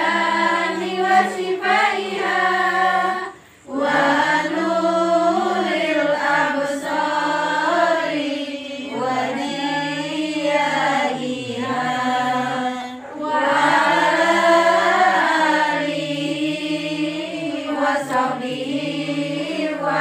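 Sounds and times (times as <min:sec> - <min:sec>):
women chanting in unison: 0:00.0 - 0:20.0.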